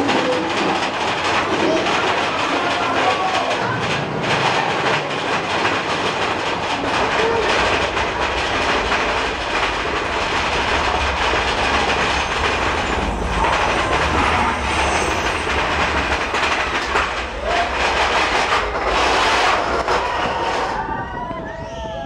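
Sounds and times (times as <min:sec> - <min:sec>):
roller coaster wheels rumbling on rails: 0:00.0 - 0:22.0.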